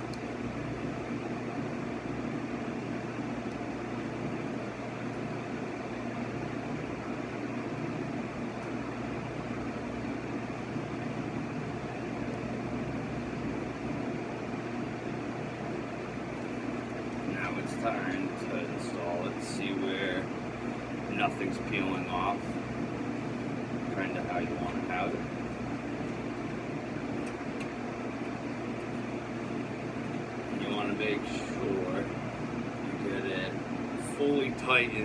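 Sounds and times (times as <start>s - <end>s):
fan humming: 0.0s - 35.0s.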